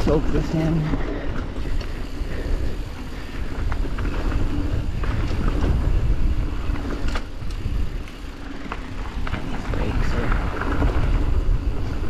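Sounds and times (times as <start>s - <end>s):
bike clicks and rattles: 0.0s - 12.0s
tyres rumbling on dirt trail: 0.0s - 12.0s
wind buffeting microphone: 0.0s - 12.0s.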